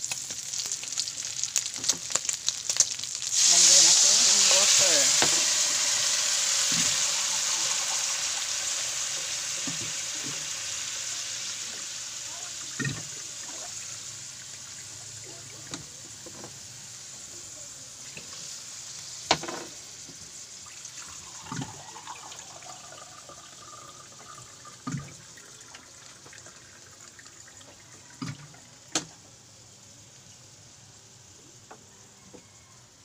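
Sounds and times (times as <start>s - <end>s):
oil sizzling in a pan: 0.0s - 33.0s.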